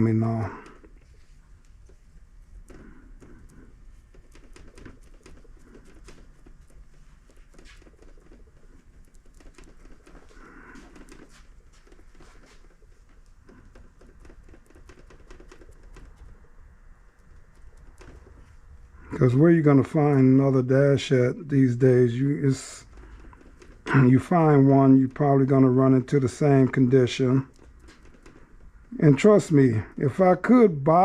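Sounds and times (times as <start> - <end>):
hands tapping and rustling fiberglass: 0.0 - 20.8, 21.5 - 31.0.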